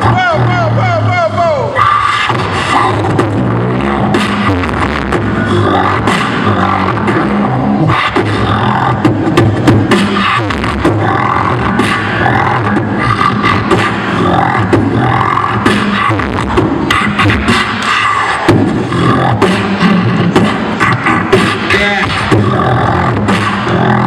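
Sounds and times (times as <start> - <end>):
beatboxing through a pa: 0.0 - 24.0.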